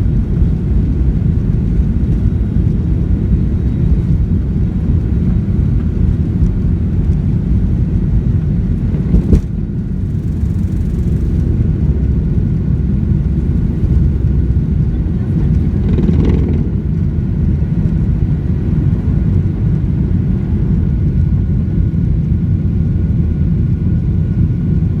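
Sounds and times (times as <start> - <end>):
aeroplane engines rumbling: 0.0 - 25.0.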